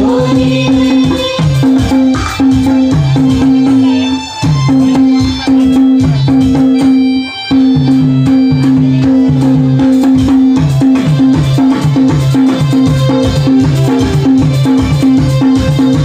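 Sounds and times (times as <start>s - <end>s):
folk instrumental melody: 0.0s - 16.0s
regular drum beat: 0.0s - 16.0s.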